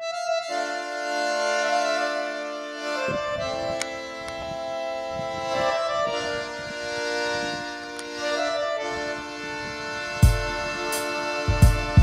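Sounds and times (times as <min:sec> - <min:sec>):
background music with held chords: 0:00.0 - 0:12.0.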